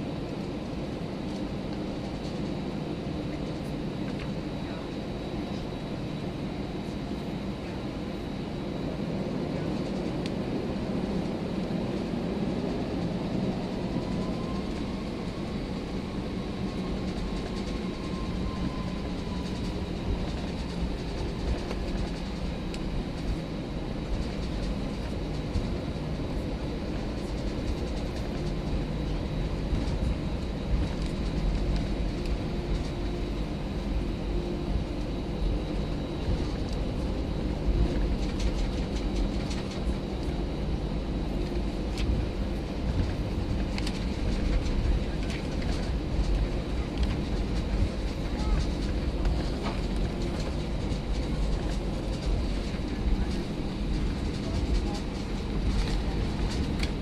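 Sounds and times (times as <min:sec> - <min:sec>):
airplane cabin hum and rumble: 0:00.0 - 0:57.0.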